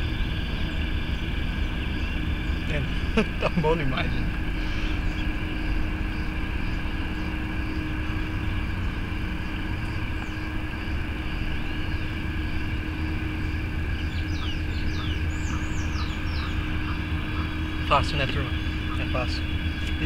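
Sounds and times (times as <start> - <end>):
high chirping calls: 0.0 - 20.0
low rumble: 0.0 - 20.0
steady hum: 0.0 - 20.0.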